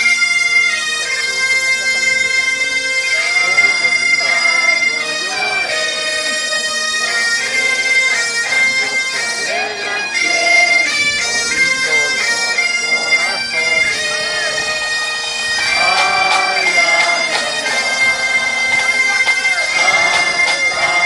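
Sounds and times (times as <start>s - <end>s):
bagpipe band playing: 0.0s - 21.0s.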